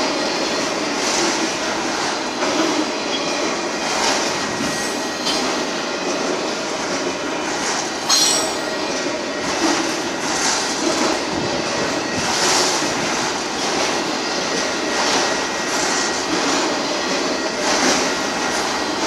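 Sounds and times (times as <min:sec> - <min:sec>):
train cars rumbling and rattling: 0:00.0 - 0:19.0.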